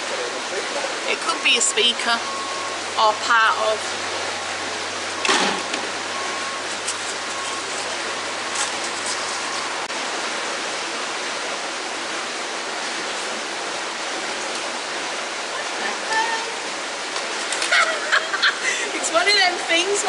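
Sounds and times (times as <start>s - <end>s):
water rushing through lock gates: 0.0s - 20.0s.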